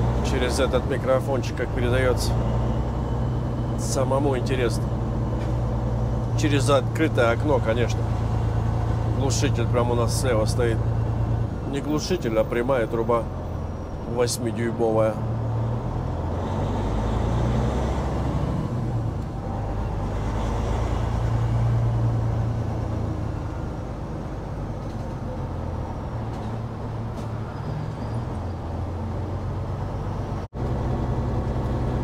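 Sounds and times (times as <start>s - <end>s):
diesel truck engine pulling: 0.0s - 32.0s.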